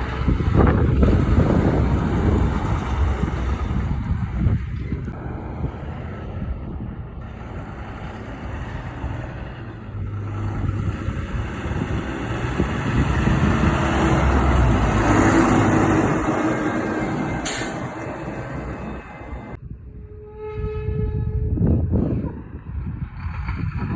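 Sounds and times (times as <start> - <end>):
truck diesel engine rumbling: 0.0 - 19.6.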